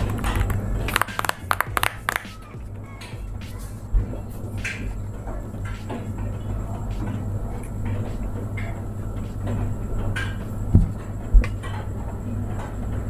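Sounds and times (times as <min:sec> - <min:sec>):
low thumps: 0:00.0 - 0:11.6.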